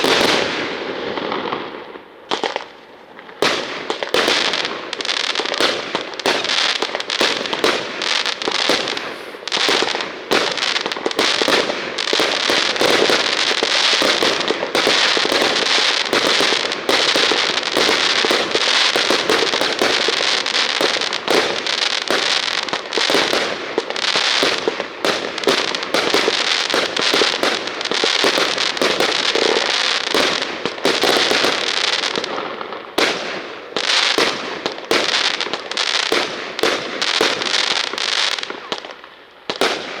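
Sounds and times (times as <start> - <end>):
fireworks banging and crackling: 0.0 - 40.0.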